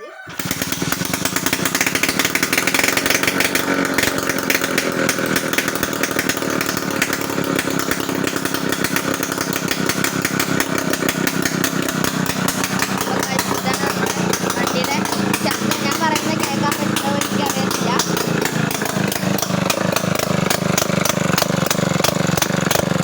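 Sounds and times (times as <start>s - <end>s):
two-stroke engine idling: 0.1s - 23.0s.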